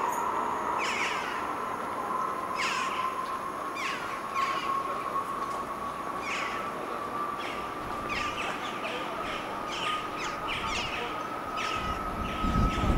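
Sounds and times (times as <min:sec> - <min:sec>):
steady high whine: 0:00.0 - 0:12.9.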